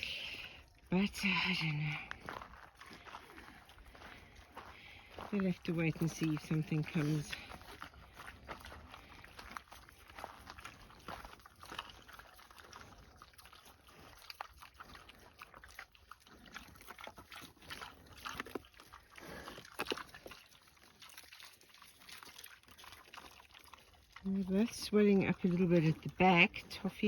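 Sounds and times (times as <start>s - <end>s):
pigs grunting and snuffling: 0.0s - 27.0s.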